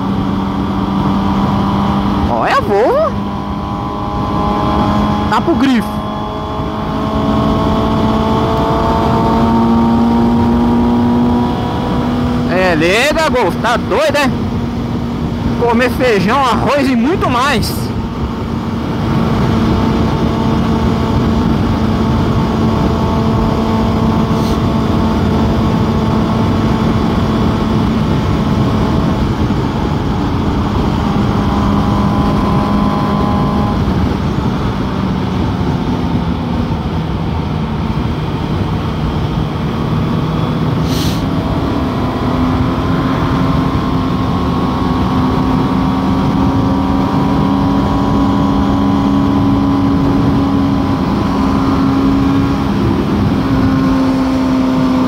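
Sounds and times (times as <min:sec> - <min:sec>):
motorcycle engine at speed: 0:00.0 - 0:55.0
wind rush: 0:00.0 - 0:55.0.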